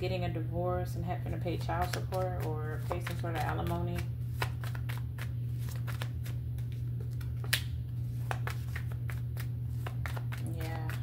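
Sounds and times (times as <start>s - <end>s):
cards shuffling: 1.4s - 11.0s
card snap: 1.8s - 11.0s.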